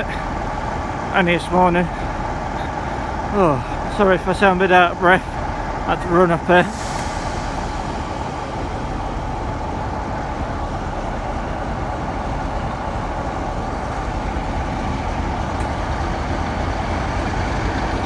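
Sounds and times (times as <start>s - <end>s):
diesel locomotive engines running: 0.0s - 18.0s.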